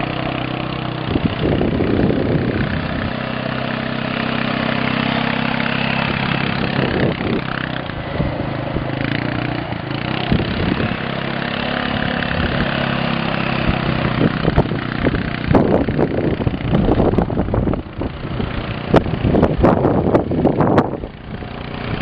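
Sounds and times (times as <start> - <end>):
quad bike engine running: 0.0 - 22.0
wind buffeting microphone: 1.0 - 22.0.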